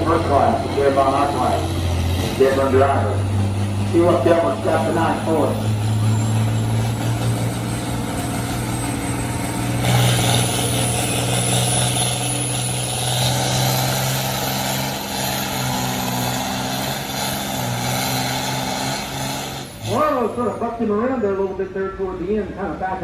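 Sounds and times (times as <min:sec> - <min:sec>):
tractor engine under heavy load: 0:00.0 - 0:23.0.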